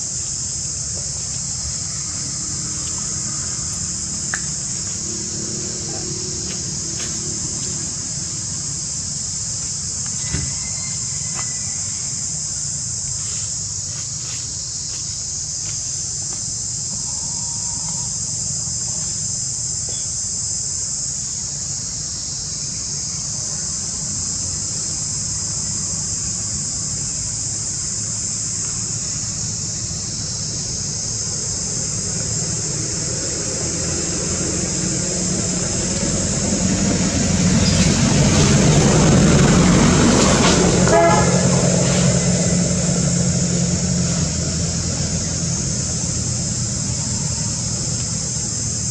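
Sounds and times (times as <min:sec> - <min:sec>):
insect chorus drone: 0:00.0 - 0:48.9.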